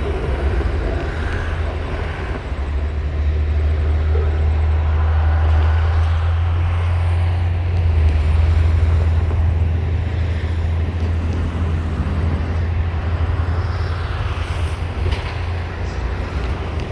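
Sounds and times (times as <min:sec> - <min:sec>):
train rolling past rumbling: 0:00.0 - 0:16.9.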